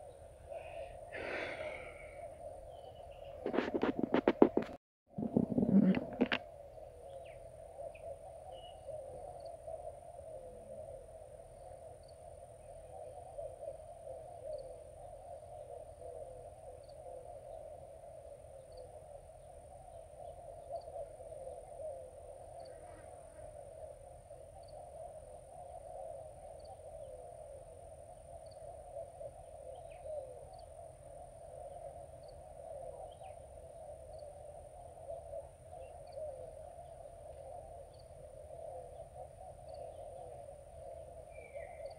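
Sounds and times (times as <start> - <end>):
continuous low drone: 0.0 - 41.9
faint animal calls: 0.0 - 41.9.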